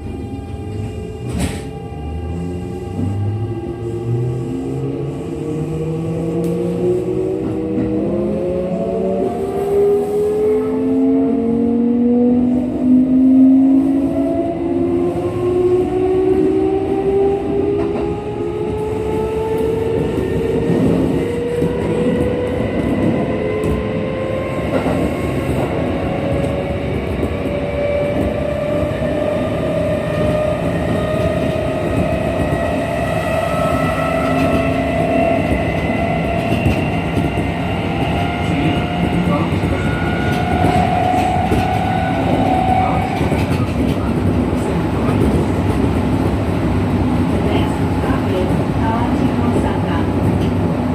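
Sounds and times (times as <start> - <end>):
train rumble: 0.0 - 50.9.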